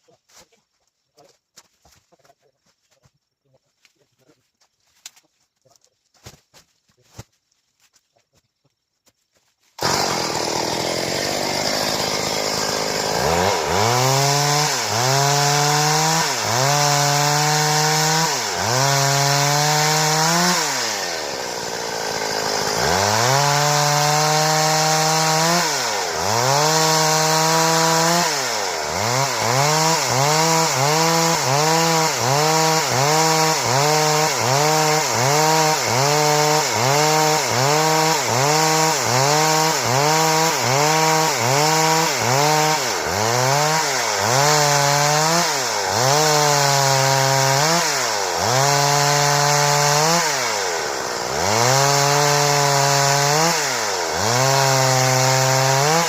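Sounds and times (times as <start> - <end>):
chainsaw cutting wood: 9.7 - 56.0.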